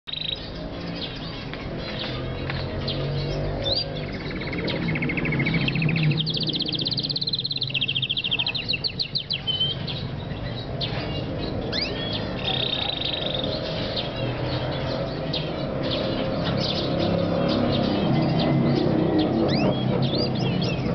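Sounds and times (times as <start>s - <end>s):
canary singing trills and whistles: 0.1s - 20.9s.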